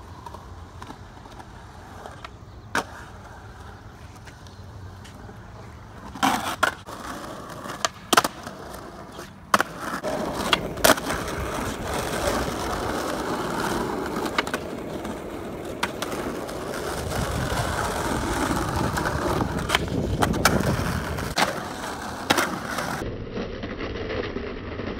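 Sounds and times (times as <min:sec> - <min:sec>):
skateboard clacks: 0:00.0 - 0:23.0
skateboard wheels rolling: 0:00.0 - 0:24.9.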